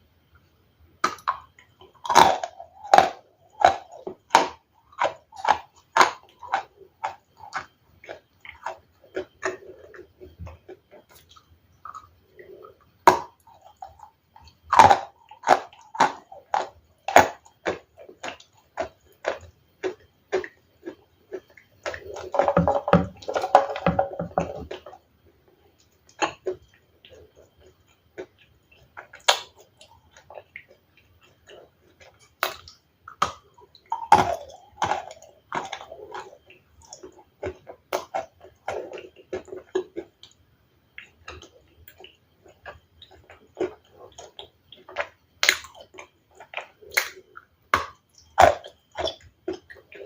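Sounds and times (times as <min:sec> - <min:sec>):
ice being chewed: 0:01.0 - 0:50.0.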